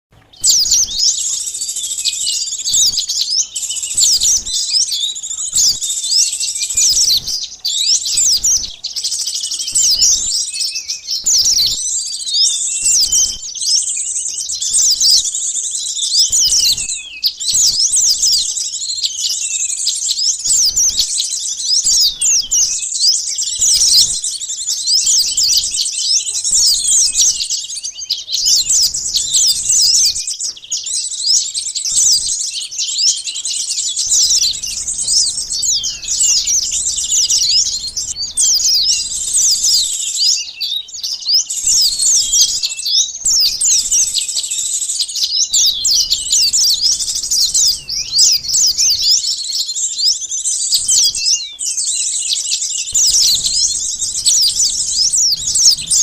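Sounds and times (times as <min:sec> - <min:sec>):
small birds chirping and twittering: 0:00.1 - 0:56.0.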